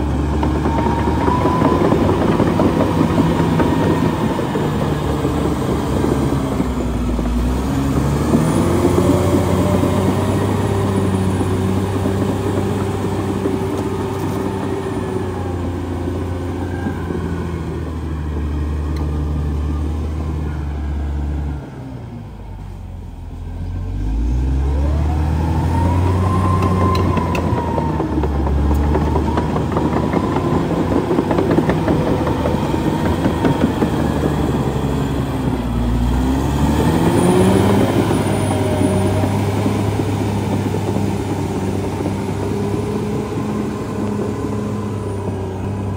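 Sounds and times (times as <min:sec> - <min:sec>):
bulldozer diesel engine working: 0:00.0 - 0:45.9.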